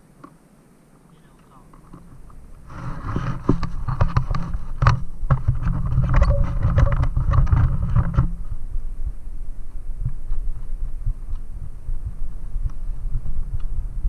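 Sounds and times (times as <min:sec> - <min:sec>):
bicycle rattling over bumps: 0:01.8 - 0:14.0
wind on microphone: 0:01.8 - 0:14.0.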